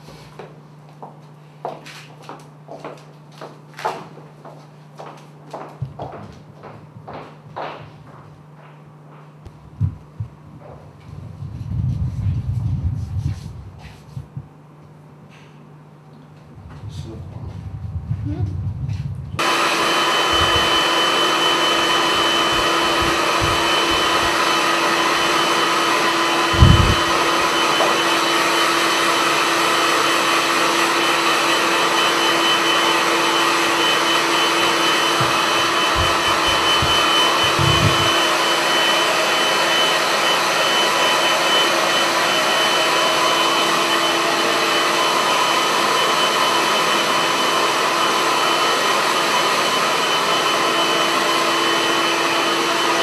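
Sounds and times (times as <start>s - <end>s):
hair dryer running: 0.0s - 8.7s, 9.5s - 14.5s, 16.4s - 53.0s.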